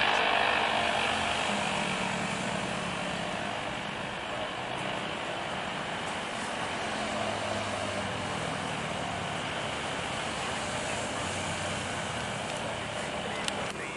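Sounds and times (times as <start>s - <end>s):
jet airliner engine roar: 0.0s - 13.9s.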